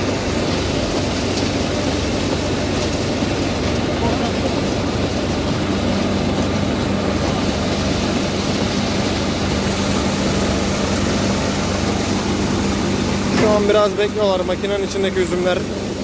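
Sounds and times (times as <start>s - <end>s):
steady low hum: 0.0s - 16.0s
winnowing machine running: 0.0s - 16.0s.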